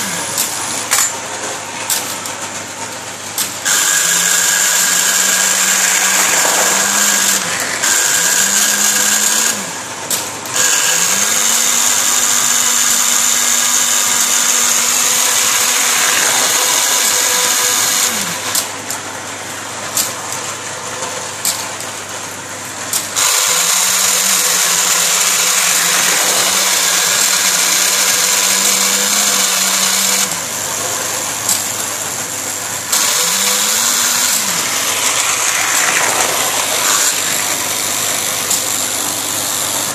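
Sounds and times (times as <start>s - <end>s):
toy crane motor whirring: 3.3s - 18.9s, 22.9s - 39.9s.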